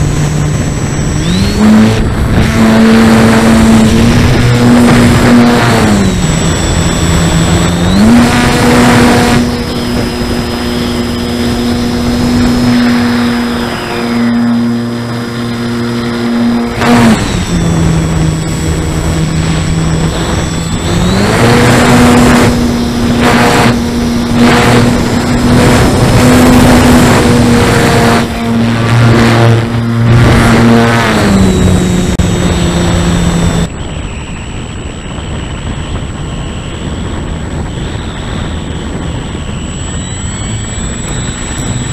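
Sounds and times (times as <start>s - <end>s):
electric motor and propeller: 0.0s - 41.9s
wind rush: 0.0s - 41.9s.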